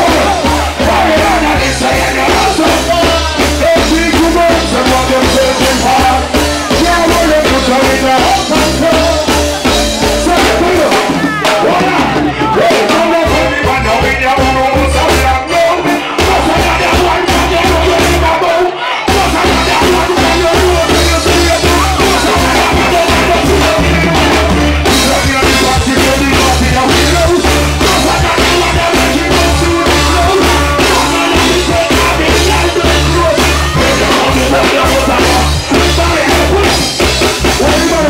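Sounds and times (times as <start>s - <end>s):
drum-kit beat: 0.0s - 38.0s
heavy bass line: 0.0s - 38.0s
live reggae band music: 0.0s - 38.0s
person singing: 0.0s - 38.0s.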